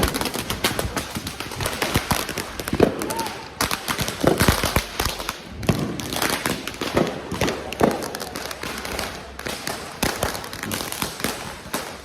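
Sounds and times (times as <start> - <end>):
firecrackers and fireworks banging: 0.0 - 12.0.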